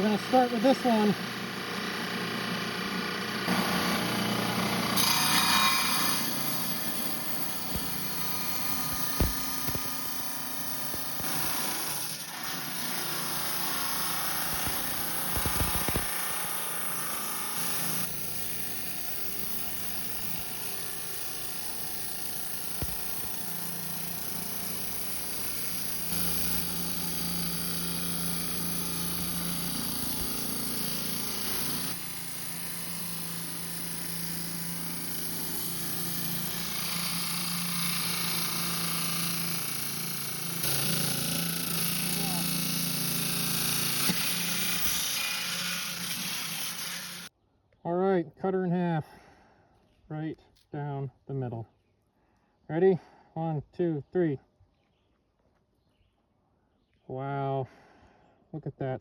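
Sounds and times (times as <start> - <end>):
motor hum: 0.0 - 47.3
saw grinding through stone: 0.0 - 47.3.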